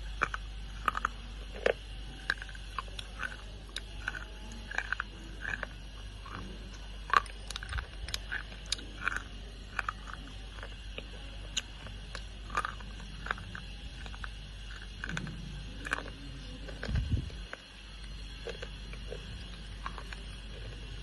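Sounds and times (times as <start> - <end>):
chewing crunches: 0.0 - 21.0.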